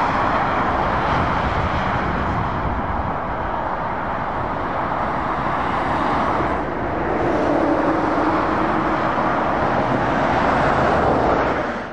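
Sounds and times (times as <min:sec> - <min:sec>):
motorway traffic rushing: 0:00.0 - 0:11.9.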